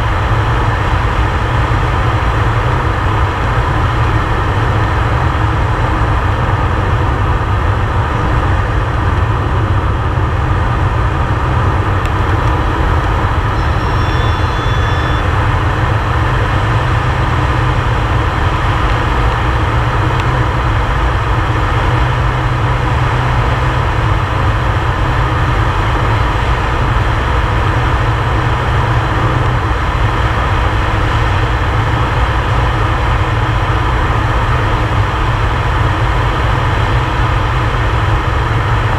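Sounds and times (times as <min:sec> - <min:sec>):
turboprop engine drone: 0:00.0 - 0:38.9.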